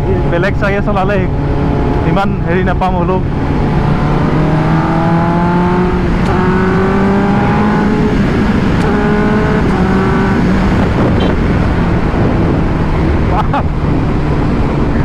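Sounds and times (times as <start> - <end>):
wind rushing over microphone: 0.0 - 15.0
motorcycle engine accelerating: 1.1 - 15.0.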